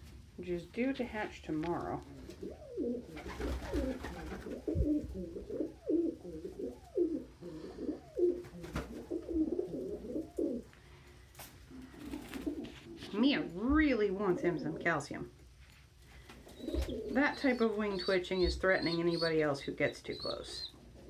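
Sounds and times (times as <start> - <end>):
pigeons cooing: 1.1 - 10.8, 11.7 - 15.0, 16.2 - 21.0.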